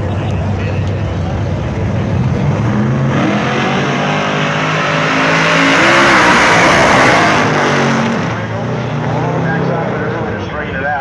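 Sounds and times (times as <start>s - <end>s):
drag racing car engine accelerating: 0.2s - 11.0s.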